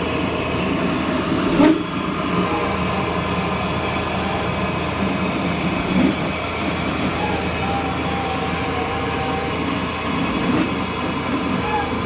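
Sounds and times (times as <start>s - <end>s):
piling machine engine running: 0.0s - 12.0s.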